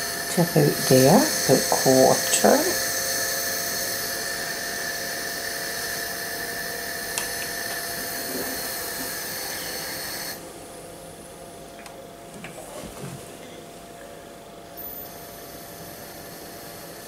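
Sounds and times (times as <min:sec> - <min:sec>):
high-pitched mechanical whine: 0:00.0 - 0:11.8, 0:13.4 - 0:17.0.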